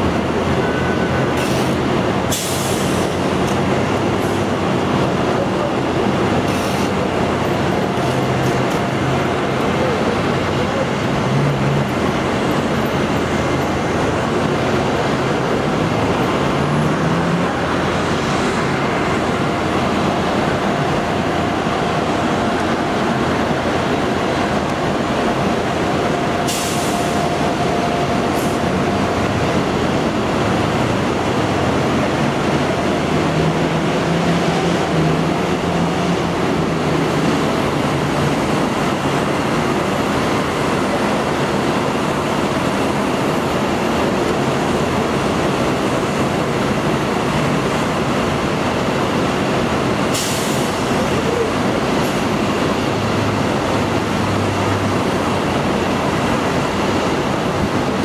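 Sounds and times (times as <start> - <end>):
jet aircraft roar: 0.0 - 58.0.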